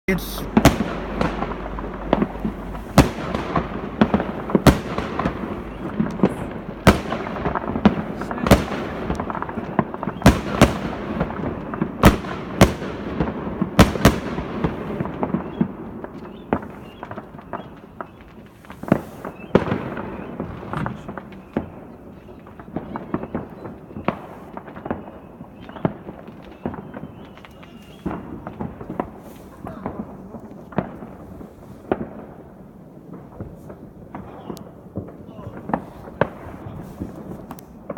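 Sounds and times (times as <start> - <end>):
loud sharp bangs: 0.1 - 32.4
fireworks crackling: 0.1 - 37.9.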